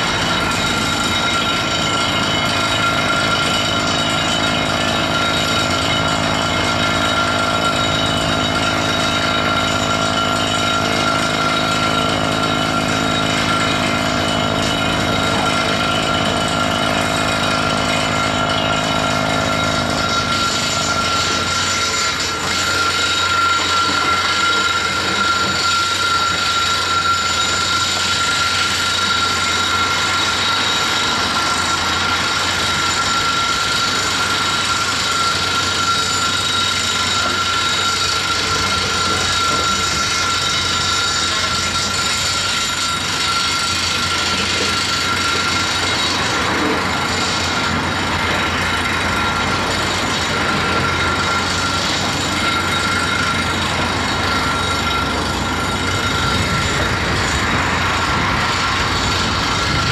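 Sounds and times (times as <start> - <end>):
excavator engine and hydraulics: 0.0 - 59.9
high-pitched whine: 0.0 - 59.9.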